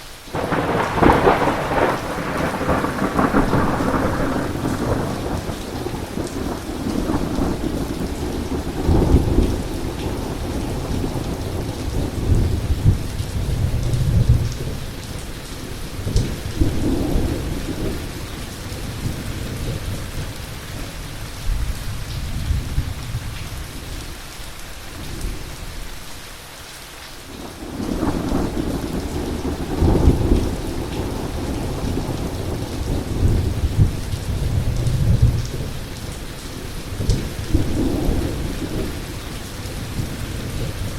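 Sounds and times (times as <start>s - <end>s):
heavy rain falling: 0.0s - 40.9s
low rumbling thunder: 0.3s - 23.6s, 27.4s - 40.9s.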